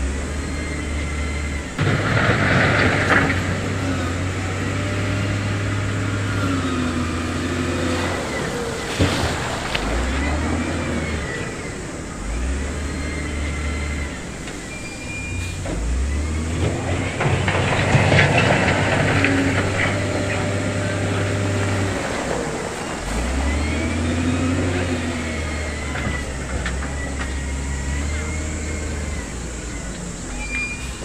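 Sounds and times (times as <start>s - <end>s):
diesel machinery engines revving: 0.0s - 31.0s.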